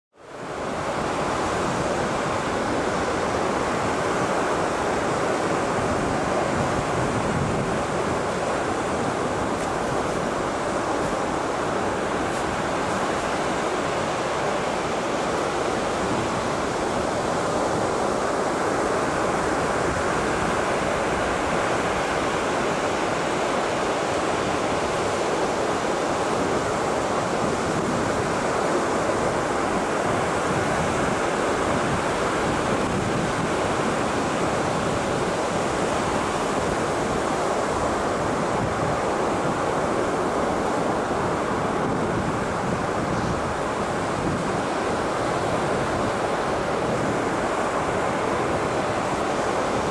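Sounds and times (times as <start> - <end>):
ocean surf washing onto beach: 0.2 - 49.9.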